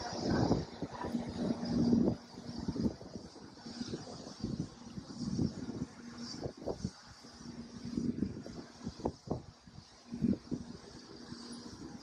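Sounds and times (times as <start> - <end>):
faint steady hum: 0.0 - 12.0
wind buffeting microphone: 0.0 - 12.0.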